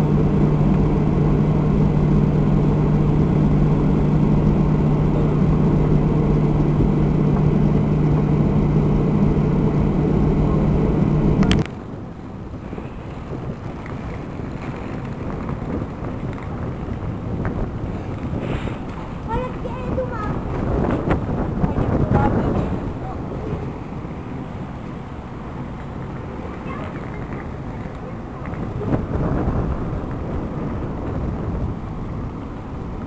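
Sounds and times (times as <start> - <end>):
engine drone with hiss: 0.0 - 33.0
wind on microphone: 0.0 - 33.0.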